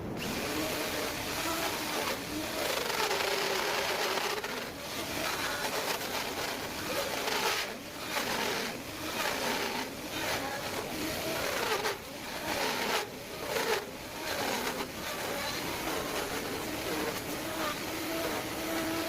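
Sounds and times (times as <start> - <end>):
tool scraping wood: 0.0 - 19.0.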